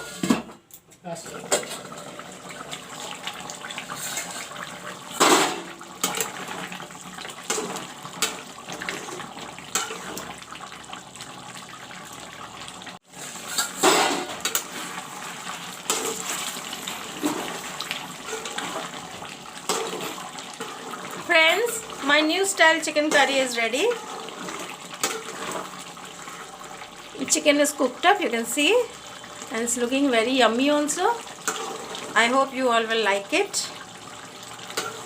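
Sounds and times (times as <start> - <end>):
curry simmering in a pan: 1.6 - 35.0.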